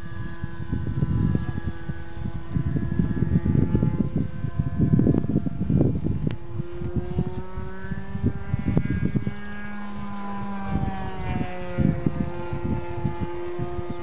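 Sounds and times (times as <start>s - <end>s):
model airplane engine droning: 0.0s - 14.0s
second lower engine tone: 0.0s - 14.0s
wind buffeting microphone: 0.0s - 14.0s.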